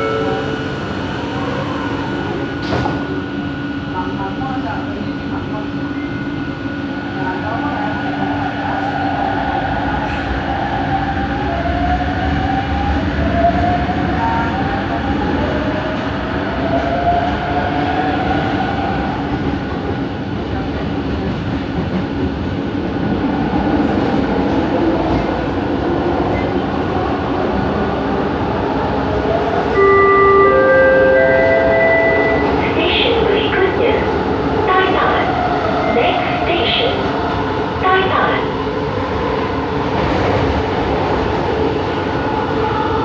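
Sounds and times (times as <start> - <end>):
train running rumble: 0.0 - 43.0.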